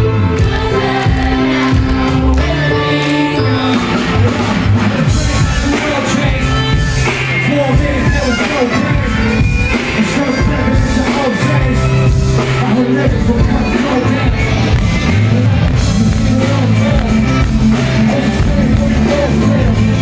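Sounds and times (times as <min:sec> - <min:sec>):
live rock band music: 0:00.0 - 0:20.0
person singing or rapping: 0:00.0 - 0:20.0
steady bass line: 0:00.0 - 0:20.0.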